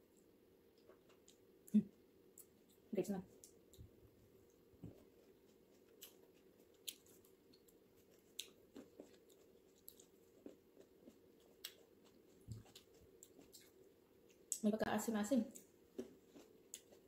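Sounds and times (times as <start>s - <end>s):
faint chewing of grapes: 0.1s - 14.6s, 15.5s - 17.0s.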